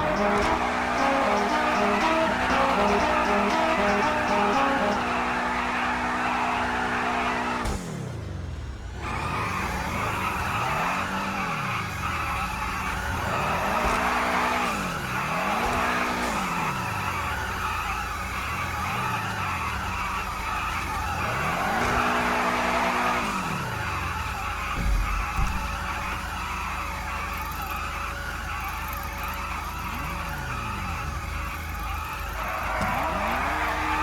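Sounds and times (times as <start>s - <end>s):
car engine revving: 0.0s - 34.0s
car tyres squealing: 0.0s - 34.0s.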